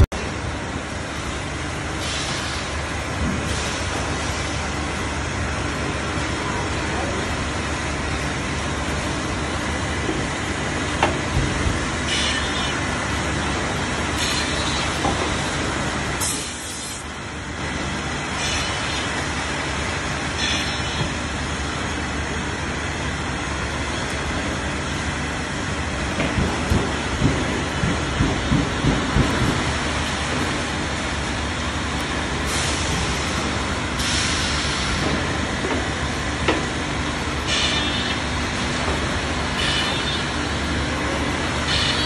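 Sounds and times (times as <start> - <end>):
workshop machinery din: 0.0 - 42.0.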